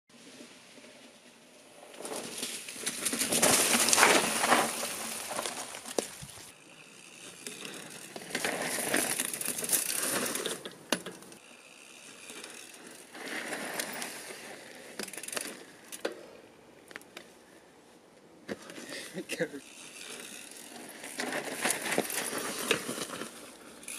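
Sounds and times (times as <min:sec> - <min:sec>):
bike tyres crunching over leaves: 0:00.2 - 0:10.7, 0:11.3 - 0:15.8, 0:19.6 - 0:23.9.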